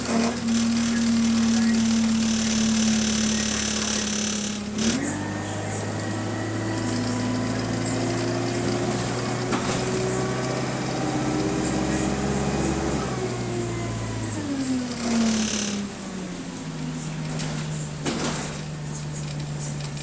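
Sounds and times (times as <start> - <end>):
bus engine: 0.0 - 20.0.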